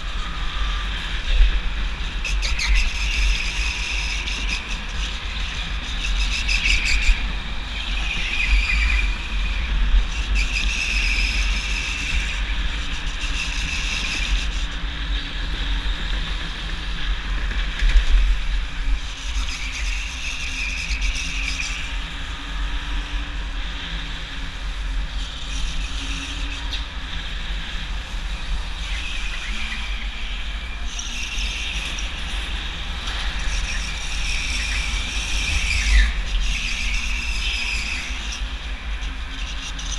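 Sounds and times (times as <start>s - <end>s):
go-kart engine rumble: 0.0s - 39.9s.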